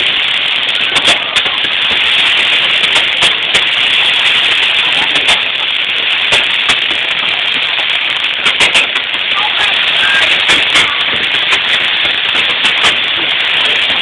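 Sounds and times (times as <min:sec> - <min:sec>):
fireworks popping: 0:00.0 - 0:14.0.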